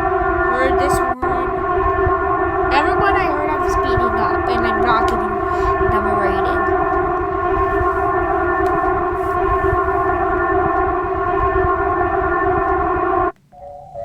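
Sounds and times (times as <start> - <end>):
low rough rumble: 0.0 - 13.4
steady electronic alarm tone: 0.0 - 14.0.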